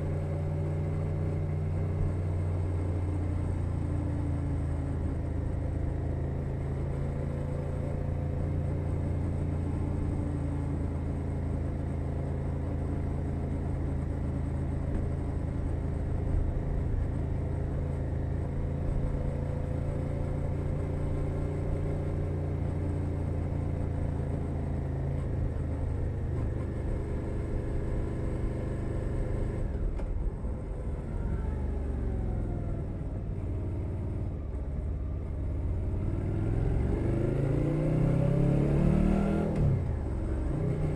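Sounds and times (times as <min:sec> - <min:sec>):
motorcycle engine while riding: 0:00.0 - 0:40.9.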